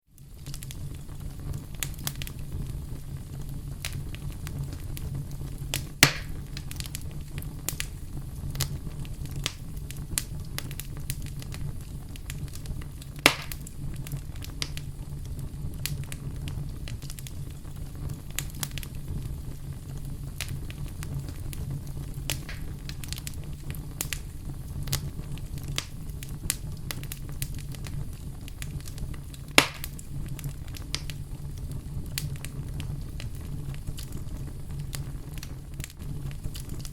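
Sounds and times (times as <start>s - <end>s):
campfire crackling: 0.1s - 36.9s
loud fire pops: 0.2s - 36.9s.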